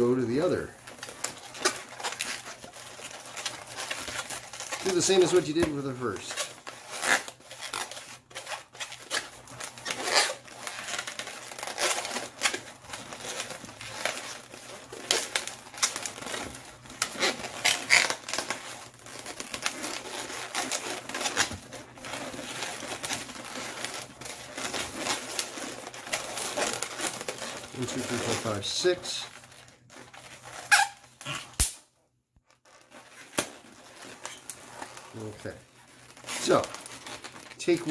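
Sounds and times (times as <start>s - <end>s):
balloon squeaking while twisted: 0.0s - 31.7s, 32.5s - 37.9s.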